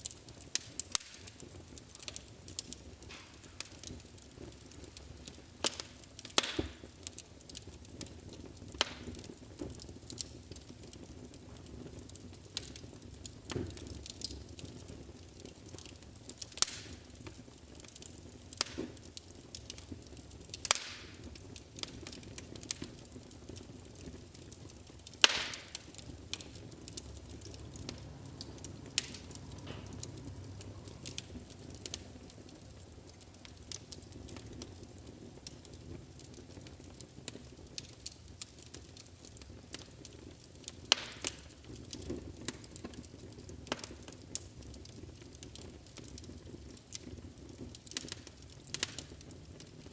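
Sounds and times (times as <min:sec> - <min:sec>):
fireplace fire crackling: 0:00.0 - 0:49.9.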